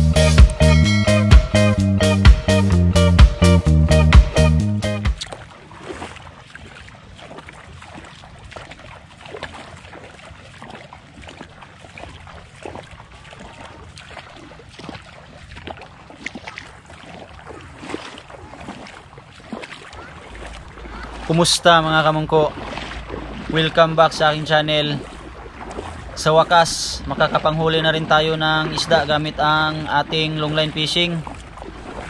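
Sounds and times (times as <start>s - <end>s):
water splashing and sloshing: 4.2s - 32.0s
footsteps wading in water: 4.3s - 32.0s.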